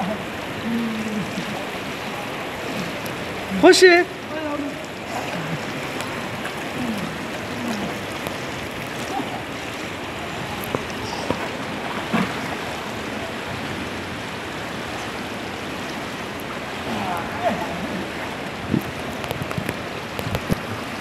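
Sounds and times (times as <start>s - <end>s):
sharp splashes: 0.0s - 21.0s
water splashing and lapping: 0.0s - 21.0s.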